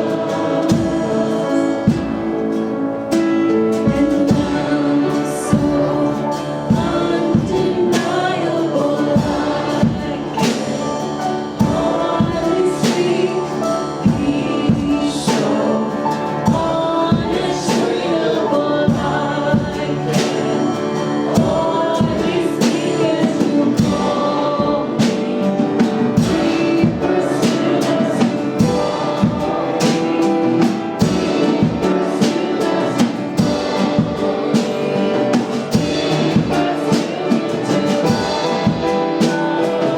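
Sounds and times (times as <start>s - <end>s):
drums steady beat: 0.0s - 39.9s
worship band with group singing: 0.0s - 39.9s.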